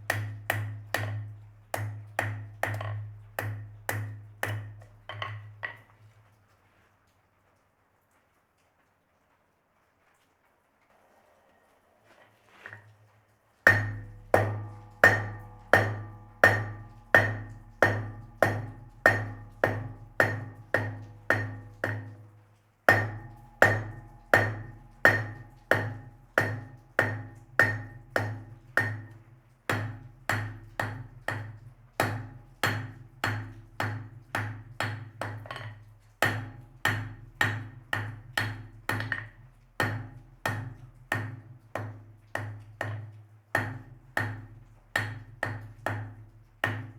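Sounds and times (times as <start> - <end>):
hammer striking steel on anvil: 0.1 - 5.8, 13.7 - 22.3, 22.9 - 46.9.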